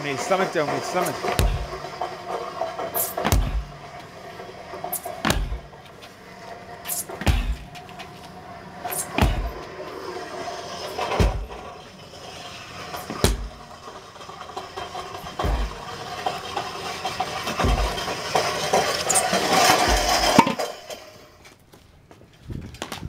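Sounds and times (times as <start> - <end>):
sledgehammer thuds: 0.0 - 20.7.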